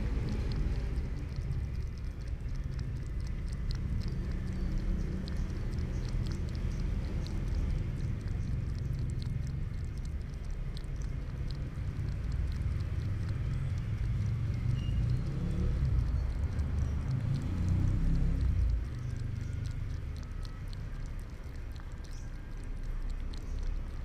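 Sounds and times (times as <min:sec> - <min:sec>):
cat mouth clicks while eating: 0:00.0 - 0:24.0
steady low rumble: 0:00.0 - 0:24.0.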